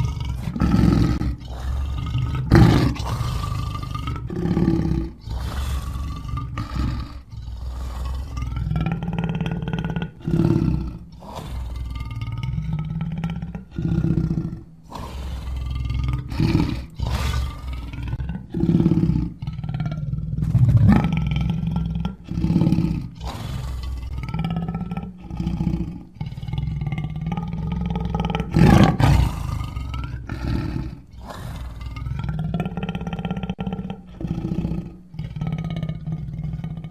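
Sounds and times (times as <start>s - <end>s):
lion roaring and growling: 0.0s - 36.9s.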